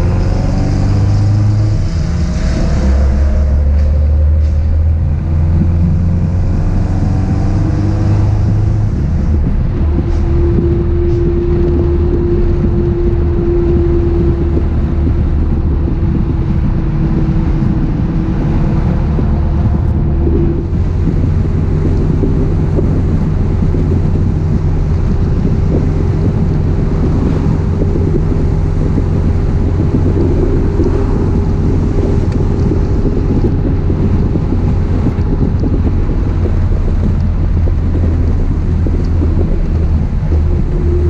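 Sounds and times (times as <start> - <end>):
car engine cruising: 0.0 - 41.0
wind rushing over microphone: 0.0 - 41.0.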